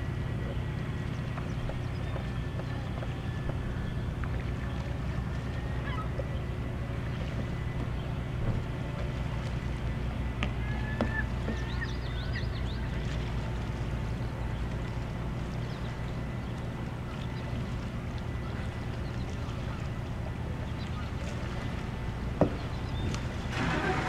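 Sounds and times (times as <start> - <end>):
faint waterbird calls: 0.0 - 24.0
low outdoor rumble: 0.0 - 24.0.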